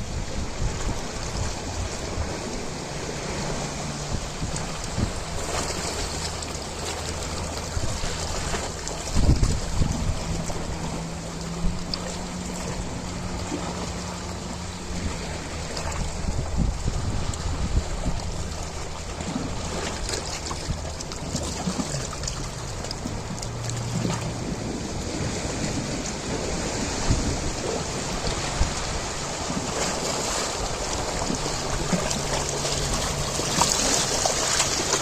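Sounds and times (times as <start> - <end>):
ocean waves washing: 0.0 - 35.0
wind buffeting microphone: 0.0 - 35.0.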